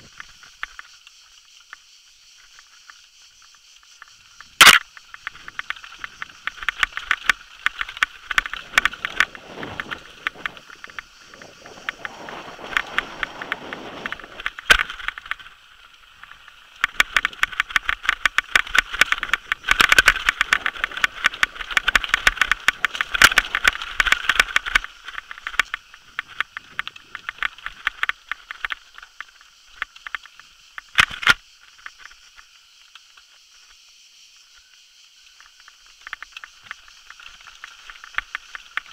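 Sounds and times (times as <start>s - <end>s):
mountain bike rattling over rocks: 2.5s - 33.2s, 35.3s - 38.9s.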